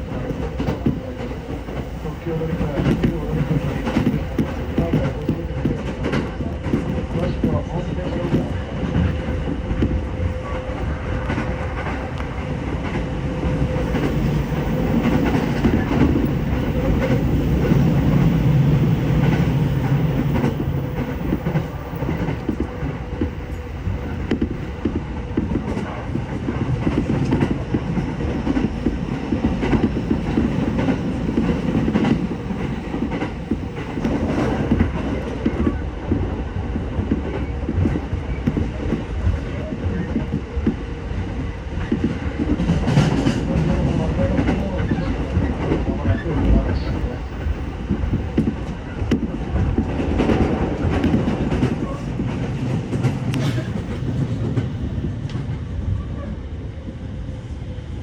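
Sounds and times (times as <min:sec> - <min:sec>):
clacks over rail joints: 0:00.0 - 0:10.1, 0:11.2 - 0:40.8, 0:41.8 - 0:55.6
train wheels rumbling on rails: 0:00.0 - 0:58.0.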